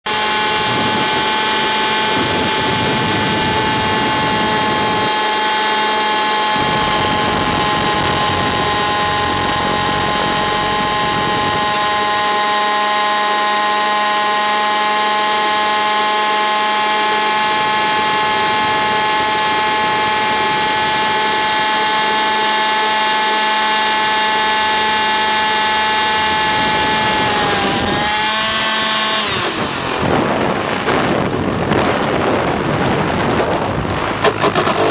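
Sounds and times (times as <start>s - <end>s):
rc helicopter engine and rotors: 0.0s - 34.9s.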